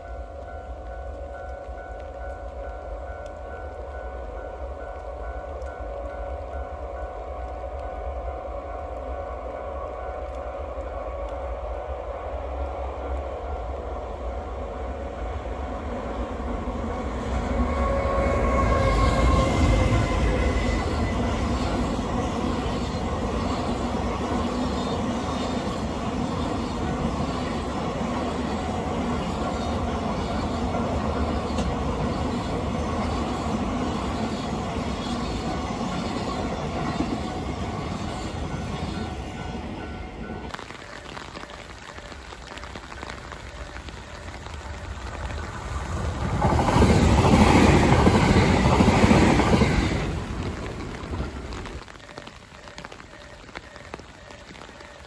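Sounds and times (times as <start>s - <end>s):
train rail rumble: 0.0s - 55.0s.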